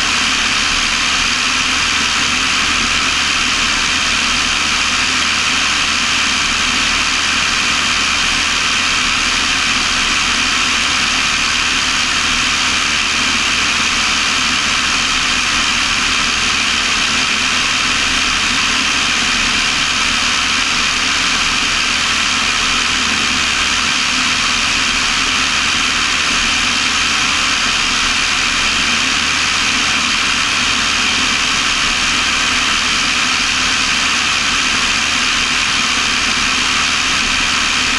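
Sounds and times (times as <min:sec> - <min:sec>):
propeller plane engine droning: 0:00.0 - 0:37.9.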